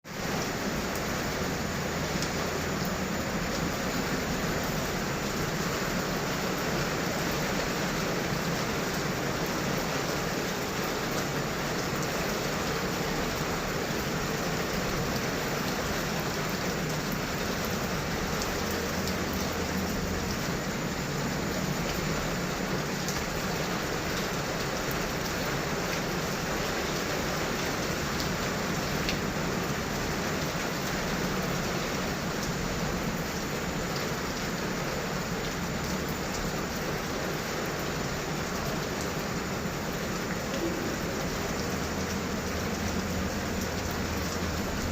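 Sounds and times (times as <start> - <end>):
heavy rain falling: 0.1 - 44.9.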